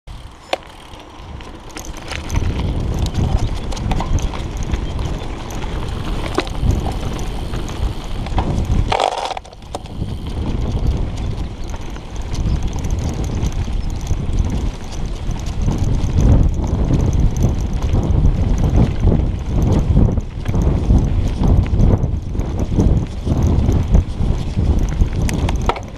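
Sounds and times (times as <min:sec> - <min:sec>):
bike knocking and rattling: 0:00.1 - 0:25.9
bike tyres rumbling: 0:00.1 - 0:25.9
wind on microphone: 0:00.1 - 0:25.9.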